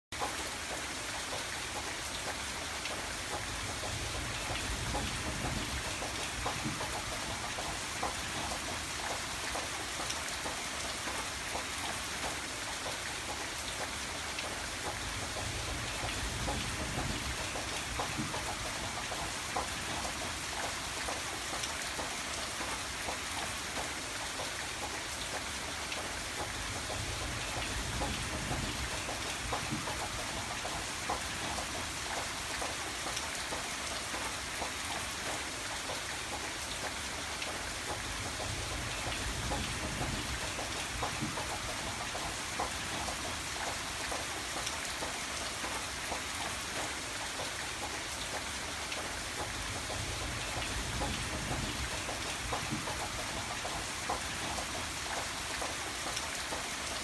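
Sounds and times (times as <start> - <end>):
rain drops tapping on surface: 0.1 - 57.0.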